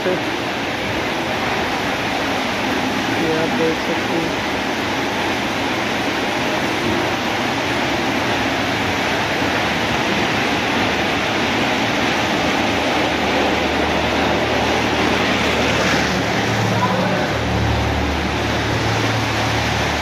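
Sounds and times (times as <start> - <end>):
water jets spraying: 0.0 - 20.0.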